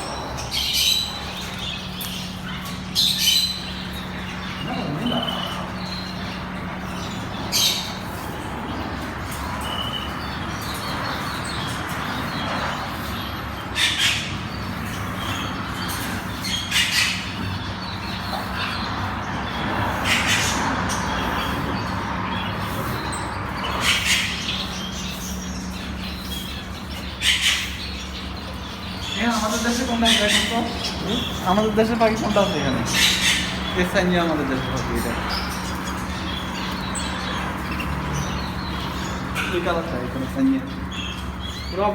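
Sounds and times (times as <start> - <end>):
birds chirping: 0.0 - 41.9
birds squawking: 0.0 - 41.9.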